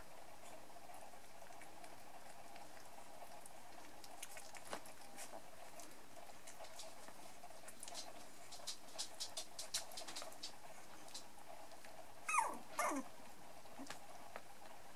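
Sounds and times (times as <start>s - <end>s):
steady background hum: 0.0s - 14.9s
puppy paws scrabbling: 1.0s - 13.0s.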